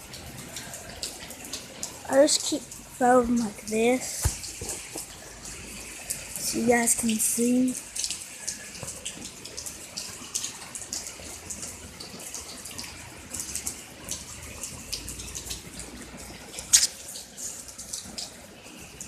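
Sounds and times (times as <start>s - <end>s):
heavy rain pouring: 0.0s - 19.0s
water splashing and dripping: 0.0s - 19.0s.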